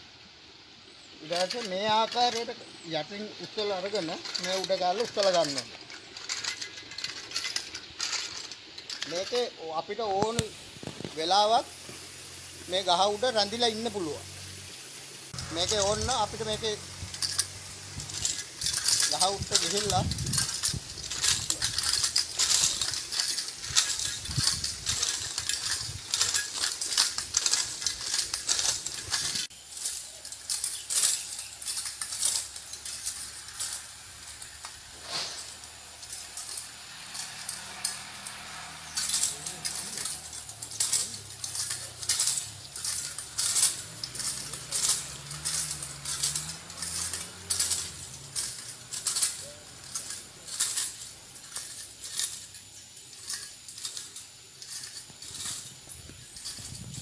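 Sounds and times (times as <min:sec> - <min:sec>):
climbing machine metallic clicking: 0:01.2 - 0:57.0.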